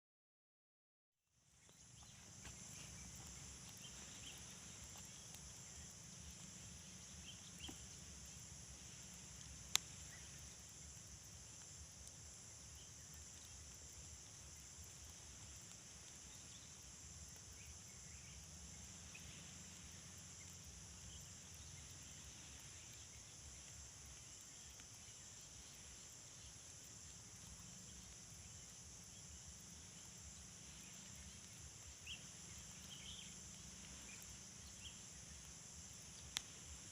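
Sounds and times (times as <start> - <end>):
high-pitched insect drone: 1.7 - 36.9.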